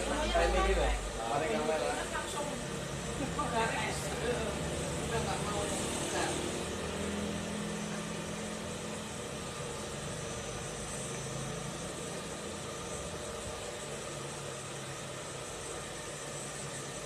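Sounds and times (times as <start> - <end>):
mechanical hum and hiss: 0.0 - 17.0.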